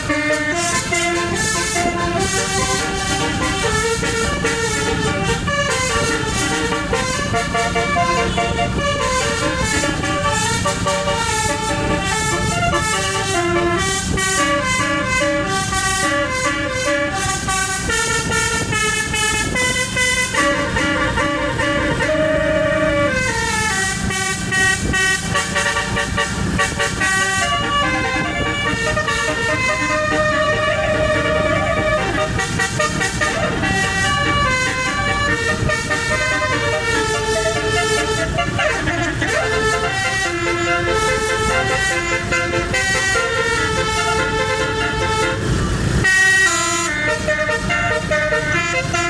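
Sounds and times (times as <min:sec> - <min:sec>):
multi-tone bus horn melody: 0:00.0 - 0:49.0.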